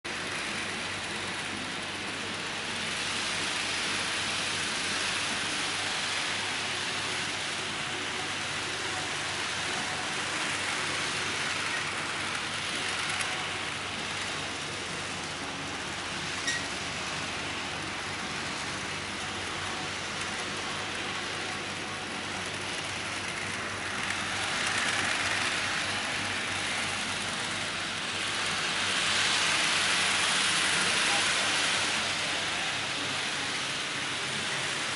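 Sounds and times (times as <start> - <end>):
model train wheels rolling on rails: 0.0 - 34.9.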